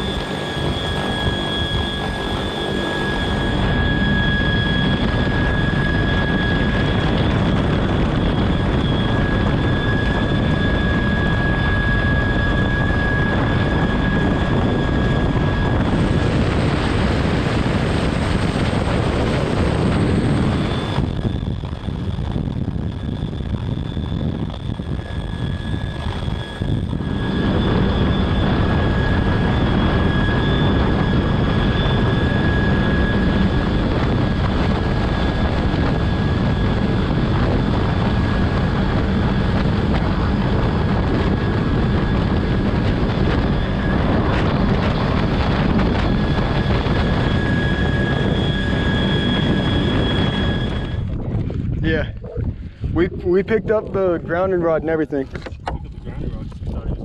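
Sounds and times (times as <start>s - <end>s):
helicopter rotor and engine noise: 0.0s - 57.0s
high turbine whine: 0.0s - 57.0s.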